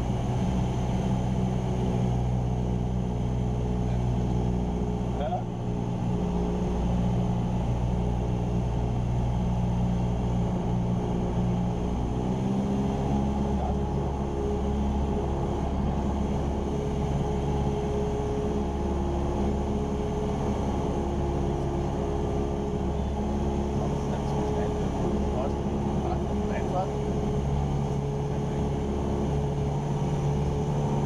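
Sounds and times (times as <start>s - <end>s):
airplane engine and propeller drone: 0.0s - 31.0s.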